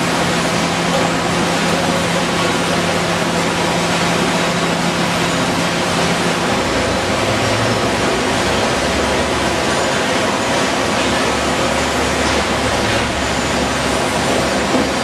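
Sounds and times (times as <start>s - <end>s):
sorting machinery running: 0.0s - 15.0s.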